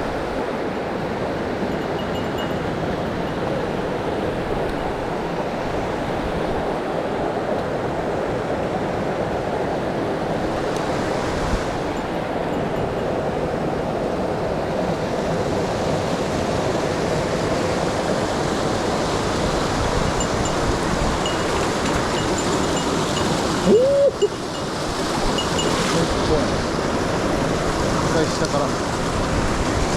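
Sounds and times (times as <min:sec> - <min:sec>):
stream rushing over rocks: 0:00.0 - 0:29.9.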